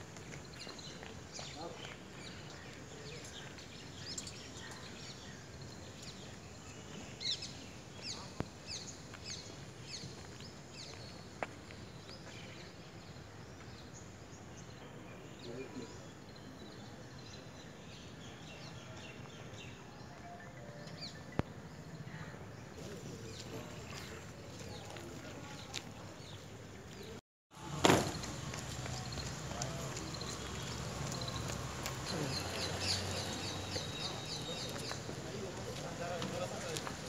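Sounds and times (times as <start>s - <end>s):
open-air background noise: 0.0s - 37.0s
birds chirping: 0.3s - 37.0s.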